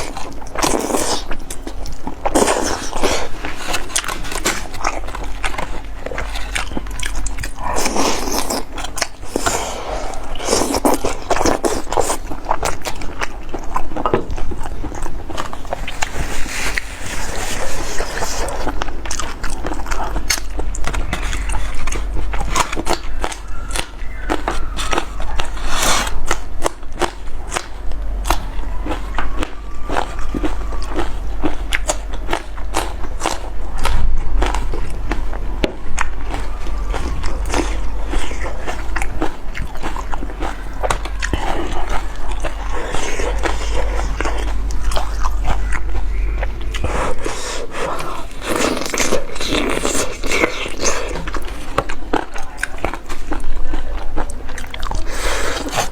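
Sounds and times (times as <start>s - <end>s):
biting and chewing food: 0.0s - 55.9s.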